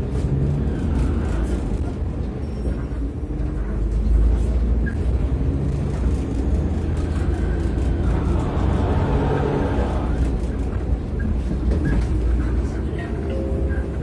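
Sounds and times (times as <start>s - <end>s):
bus engine rumbling: 0.0s - 14.0s.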